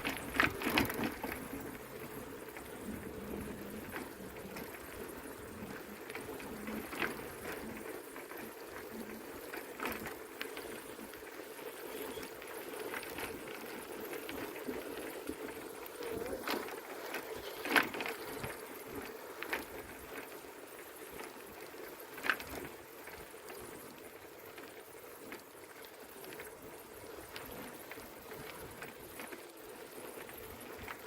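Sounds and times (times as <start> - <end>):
bicycle rattles and clicks: 0.0 - 31.0
bicycle rolling: 0.0 - 31.0.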